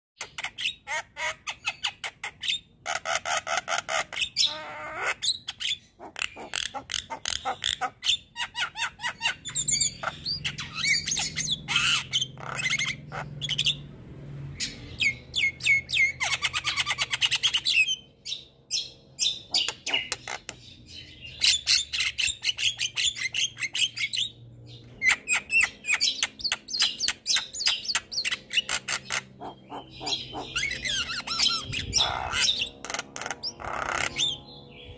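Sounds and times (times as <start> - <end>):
myna bird singing: 0.2 - 34.9.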